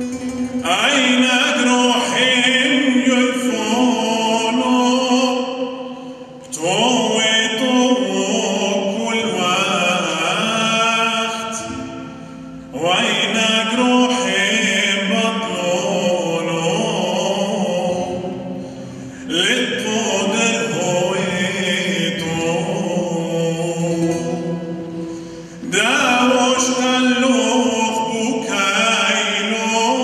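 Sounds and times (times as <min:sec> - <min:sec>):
man singing a hymn: 0:00.0 - 0:30.0
plucked lute: 0:00.0 - 0:30.0.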